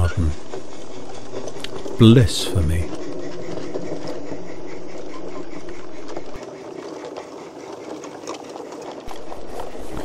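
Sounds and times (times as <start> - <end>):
model train clattering on rails: 0.0 - 10.0.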